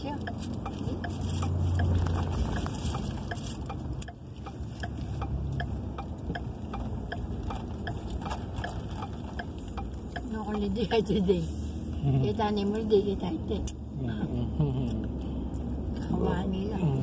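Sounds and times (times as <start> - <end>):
turn signal ticking: 0.0 - 14.0
low hum of car driving: 0.0 - 17.0.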